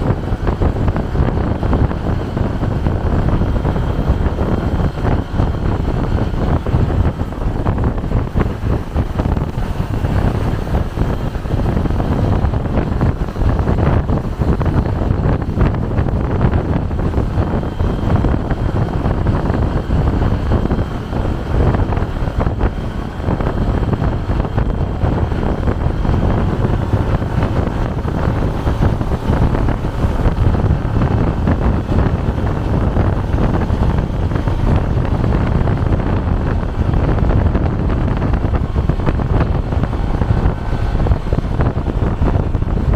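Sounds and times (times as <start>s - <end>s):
vehicle road and engine noise: 0.0s - 42.9s
wind buffeting microphone: 0.0s - 42.9s.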